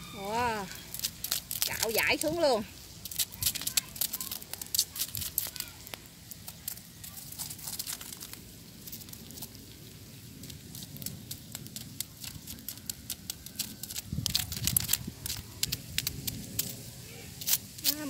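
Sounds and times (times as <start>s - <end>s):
stick scraping crisp fish scales: 0.2s - 9.8s, 10.4s - 18.0s.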